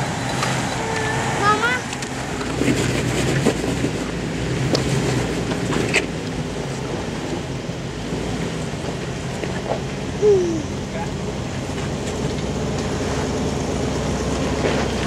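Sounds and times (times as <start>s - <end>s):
off-road vehicle engine at low revs: 0.0s - 15.0s.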